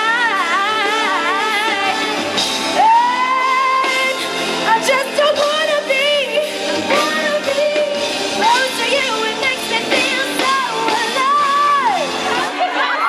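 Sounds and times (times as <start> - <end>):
woman singing into microphone: 0.0 - 13.0.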